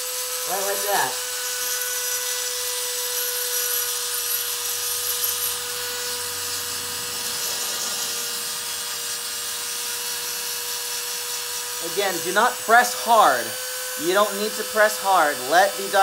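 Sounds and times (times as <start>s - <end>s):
metal grinding hiss: 0.0s - 16.0s
rotary tool high whine: 0.0s - 16.0s.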